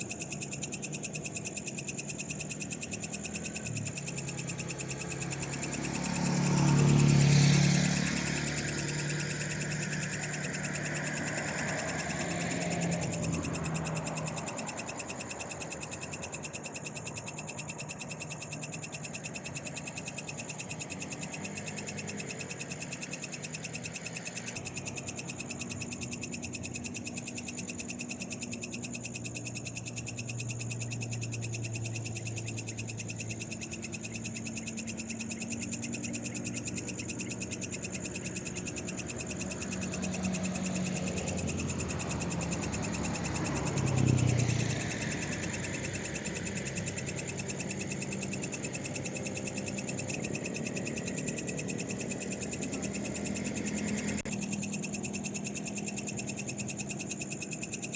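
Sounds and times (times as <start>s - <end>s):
frogs calling: 0.0s - 57.9s.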